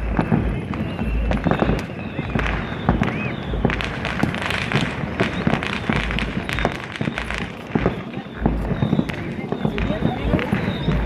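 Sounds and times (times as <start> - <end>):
distant fireworks and firecrackers: 0.0 - 11.0
firework whistle: 0.0 - 11.0.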